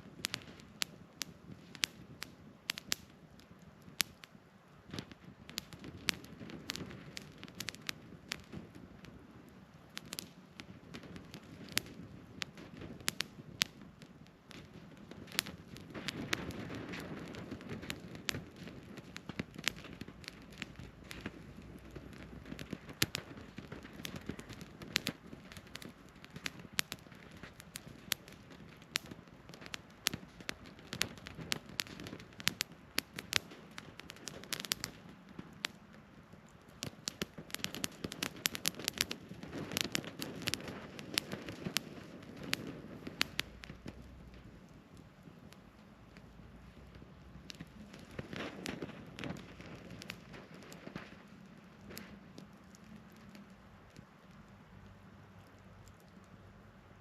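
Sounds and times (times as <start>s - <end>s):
flame rushing: 0.0s - 56.4s
firewood crackling and popping: 0.0s - 57.0s.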